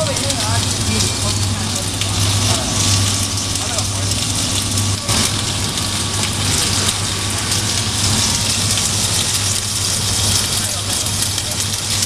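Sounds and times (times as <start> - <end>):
loud dense hiss: 0.0 - 12.0
low motor hum: 0.0 - 12.0.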